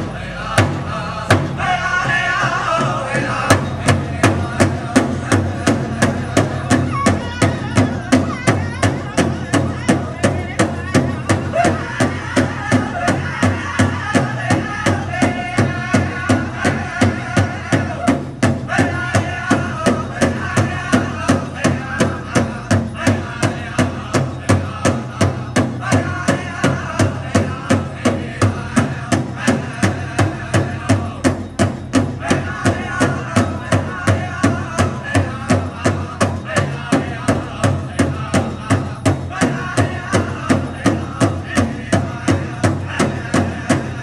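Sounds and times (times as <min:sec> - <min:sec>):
big drum struck in unison: 0:00.0 - 0:44.0
singers' voices: 0:00.0 - 0:44.0.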